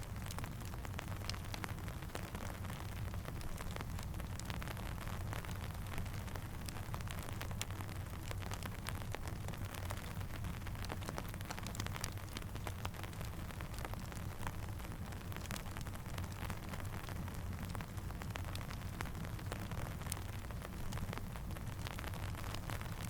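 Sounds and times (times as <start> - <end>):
crackling campfire: 0.0 - 23.0
steady rain falling: 0.0 - 23.0.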